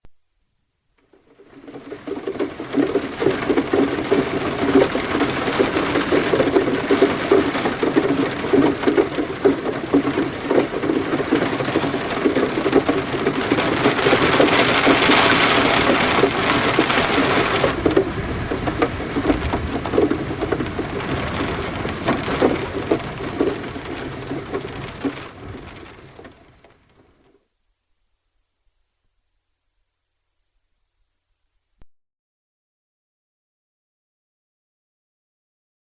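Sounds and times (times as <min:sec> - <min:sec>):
rain pattering on a window: 0:01.0 - 0:31.5.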